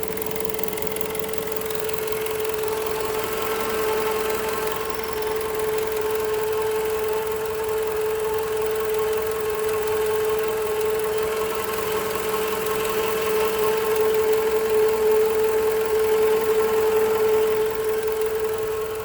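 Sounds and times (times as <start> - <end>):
car engine idling with whine: 0.0 - 19.0.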